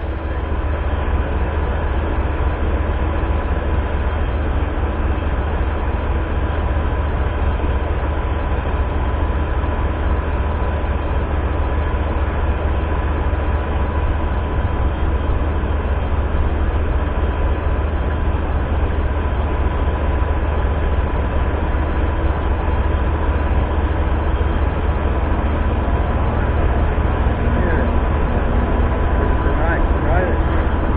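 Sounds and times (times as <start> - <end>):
passenger train rumbling: 0.0 - 30.9.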